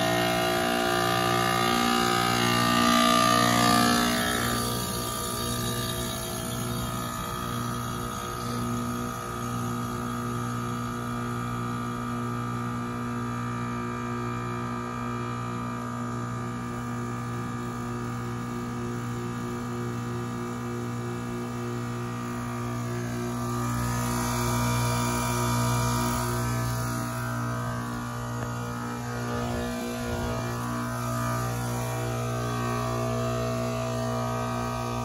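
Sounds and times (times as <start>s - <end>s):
heat pump humming: 0.0s - 35.0s.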